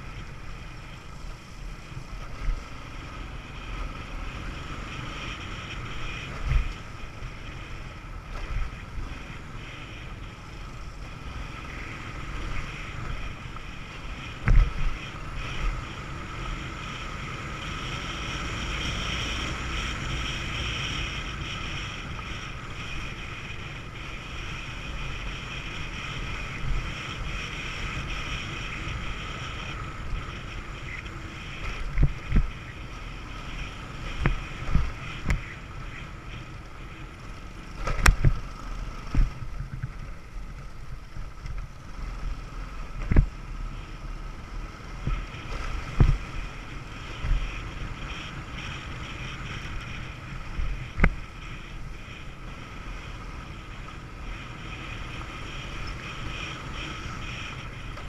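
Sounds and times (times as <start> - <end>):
moped engine running: 0.0 - 58.0
wind rushing over microphone: 0.0 - 58.0.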